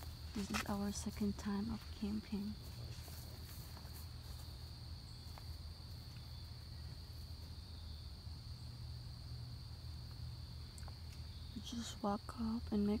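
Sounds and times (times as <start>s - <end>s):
crickets chirring: 0.0s - 13.0s
low steady hum: 0.0s - 13.0s.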